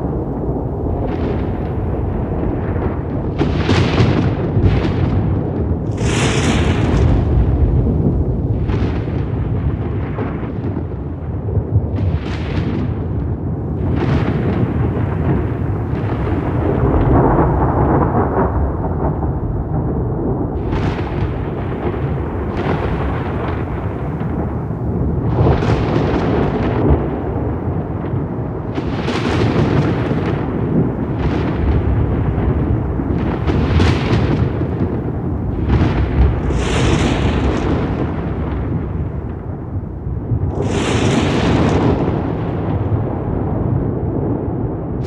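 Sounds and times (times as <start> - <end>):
crackling thunder peals: 0.0 - 45.0
thunder rumbling: 0.0 - 45.0.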